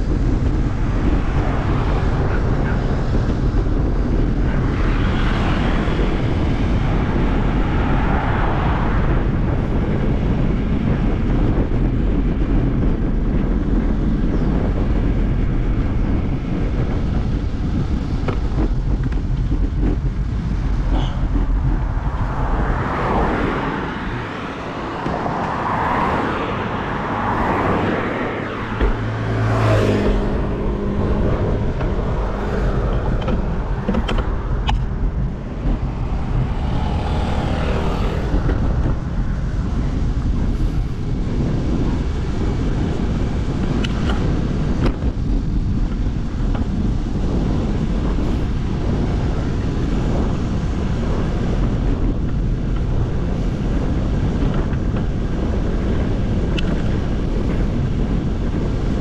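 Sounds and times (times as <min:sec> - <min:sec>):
vehicles passing: 0:00.0 - 0:59.0
wind rumble on microphone: 0:00.0 - 0:59.0.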